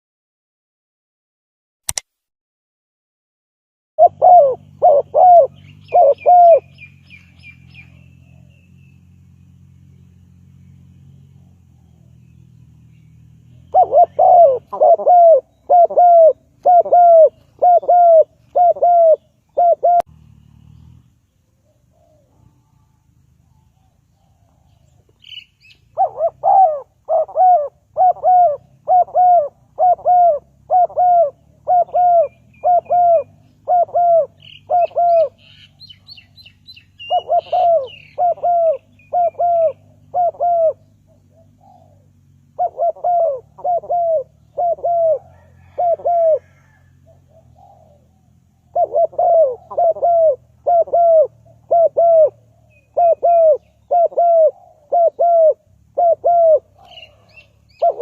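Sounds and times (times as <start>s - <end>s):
dove cooing: 4.0s - 8.7s, 13.5s - 20.1s, 21.6s - 58.0s
faint bird chirps: 4.0s - 58.0s.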